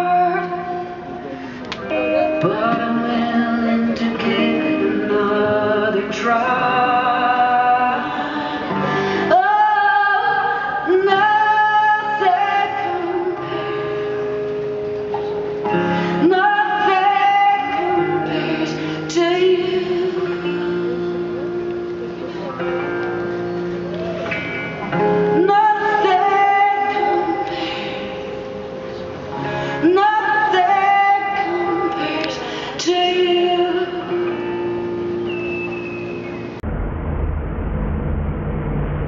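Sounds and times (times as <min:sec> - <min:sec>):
guitar and band accompaniment: 0:00.0 - 0:36.6.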